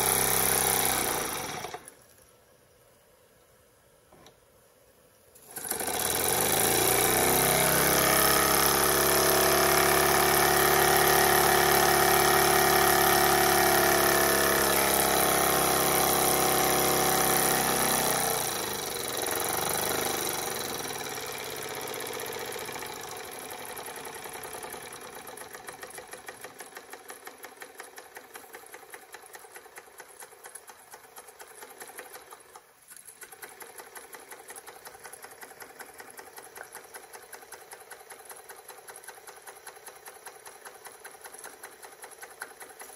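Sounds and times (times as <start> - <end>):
steam engine chuffing and ticking: 5.7 - 42.9.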